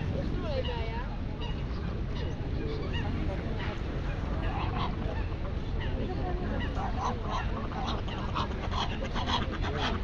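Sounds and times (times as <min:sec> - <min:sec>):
geese honking: 0:00.6 - 0:10.0.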